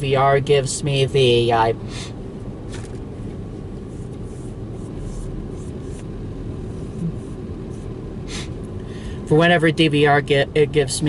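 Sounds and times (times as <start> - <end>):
car cabin rumble: 0.0 - 10.9.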